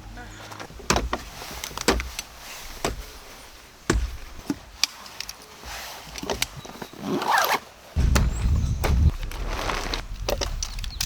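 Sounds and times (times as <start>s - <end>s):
short rustle: 0.1s - 11.0s
sharp wooden cracks and knocks: 0.4s - 11.0s.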